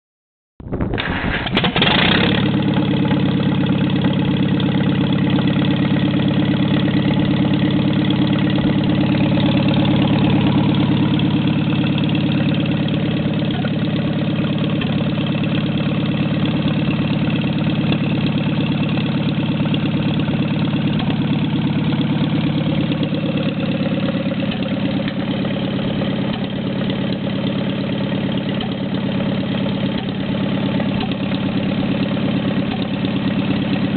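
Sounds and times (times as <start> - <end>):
tractor engine idling: 1.0 - 33.9.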